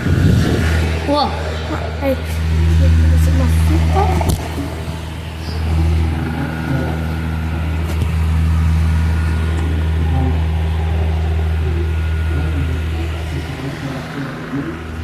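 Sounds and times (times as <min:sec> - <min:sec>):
faint high whine: 0:00.0 - 0:15.0
tower fan humming: 0:00.0 - 0:15.0.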